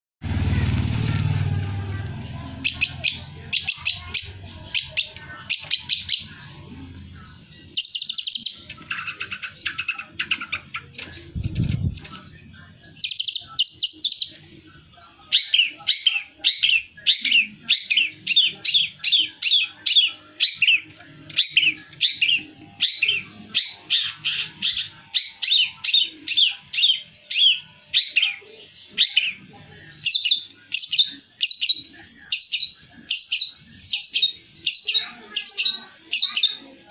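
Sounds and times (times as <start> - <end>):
shrike singing: 0.2 - 36.9.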